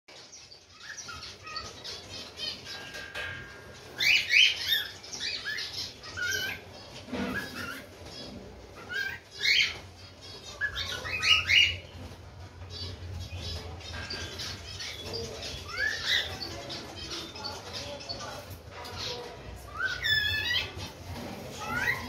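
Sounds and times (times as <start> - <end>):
cockatiel chirping and warbling: 0.7 - 6.6, 7.2 - 12.0, 12.8 - 22.0.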